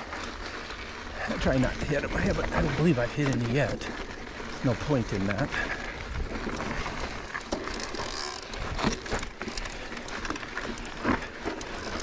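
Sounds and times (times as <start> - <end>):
bike rattling over rocks: 0.0 - 12.0
bike tyres on gravel: 0.0 - 12.0.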